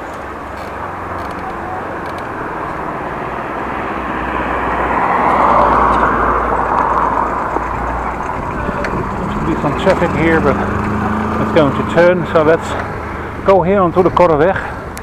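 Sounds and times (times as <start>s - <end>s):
background road noise: 0.0s - 15.0s
car passing: 0.0s - 15.0s.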